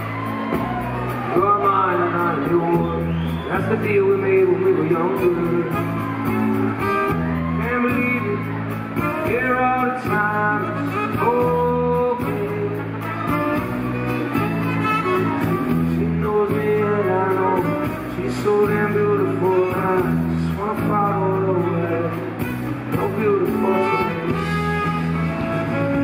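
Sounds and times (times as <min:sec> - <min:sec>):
bass guitar: 0:00.0 - 0:26.0
drums: 0:00.0 - 0:26.0
guitar lead melody: 0:00.0 - 0:26.0.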